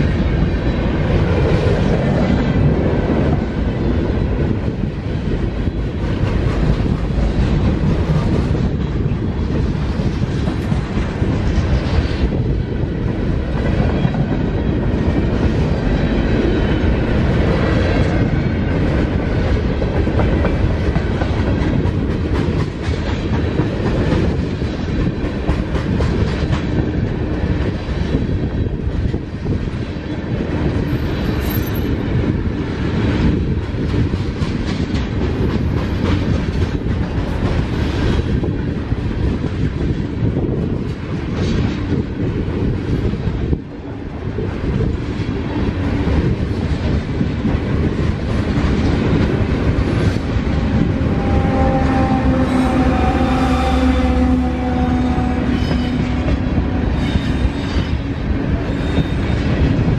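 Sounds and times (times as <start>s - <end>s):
freight train wheels rumbling: 0.0s - 59.9s
wheels clickety-clack on rail joints: 0.0s - 59.9s.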